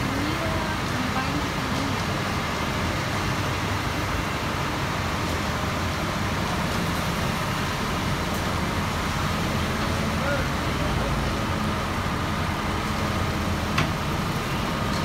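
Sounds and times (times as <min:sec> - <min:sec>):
concrete pouring down chute: 0:00.0 - 0:15.0
diesel truck engine rumbling: 0:00.0 - 0:15.0.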